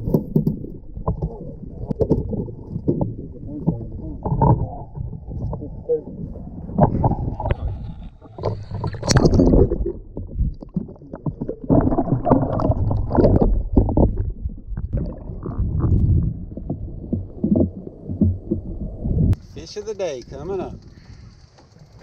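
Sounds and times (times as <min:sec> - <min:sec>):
low rumbling and wind buffeting: 0:00.0 - 0:22.0.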